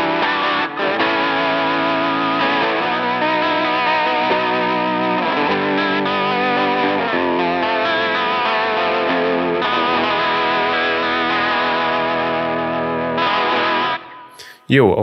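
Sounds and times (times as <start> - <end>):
electric guitar strumming chords: 0.0 - 14.4.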